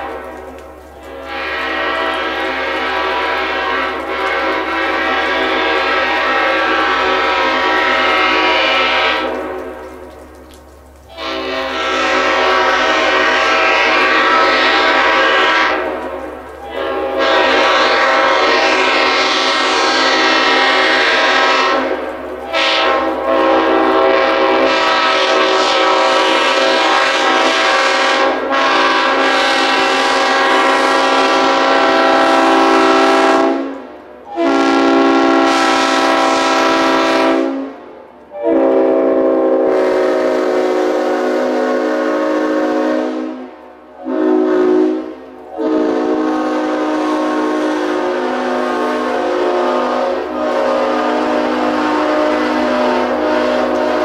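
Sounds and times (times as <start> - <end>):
locomotive air horn blasts: 0.0 - 9.8, 11.1 - 54.0.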